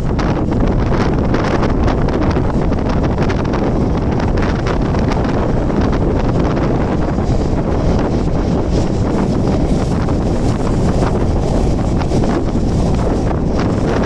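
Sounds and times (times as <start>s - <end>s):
electric train running: 0.0s - 14.0s
wind buffeting microphone: 0.0s - 14.0s.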